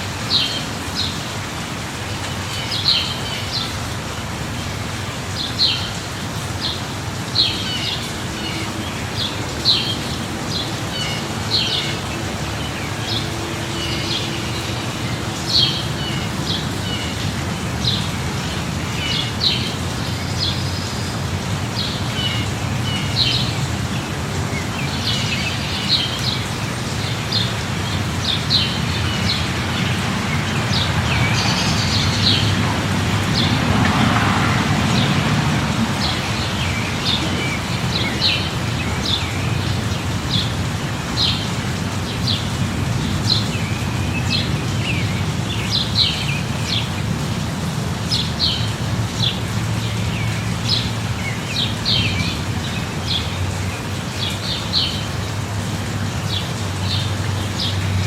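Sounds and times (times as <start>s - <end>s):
light rain: 0.0s - 58.0s.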